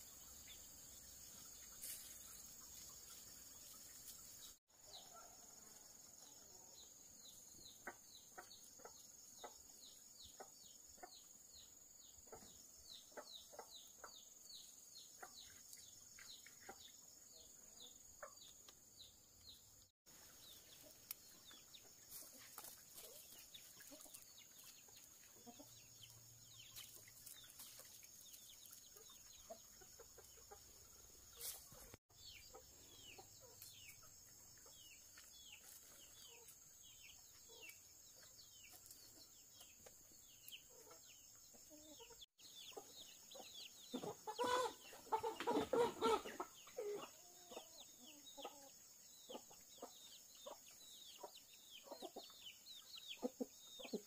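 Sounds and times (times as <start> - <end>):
chickens clucking and peeping: 0.0 - 54.0.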